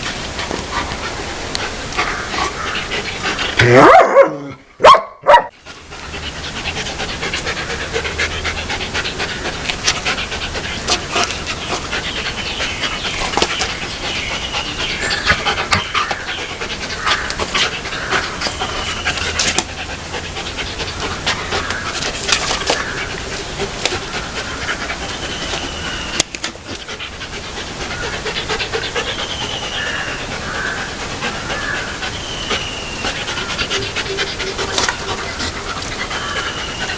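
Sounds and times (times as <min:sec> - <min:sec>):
dog panting: 0:00.0 - 0:03.6, 0:05.6 - 0:36.9.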